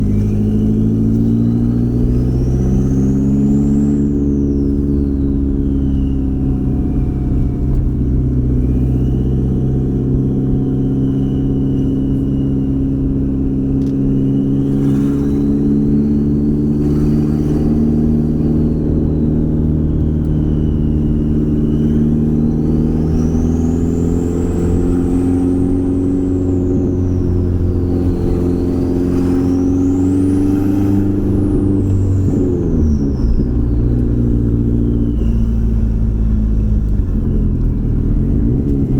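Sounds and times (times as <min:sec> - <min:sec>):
car engine running: 0:00.0 - 0:38.9
turbo whistle: 0:00.0 - 0:38.9.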